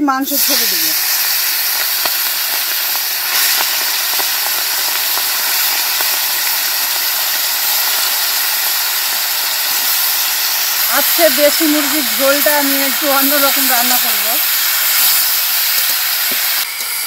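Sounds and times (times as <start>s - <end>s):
chicken sizzling in hot oil: 0.0s - 17.0s
oil popping: 0.4s - 16.6s.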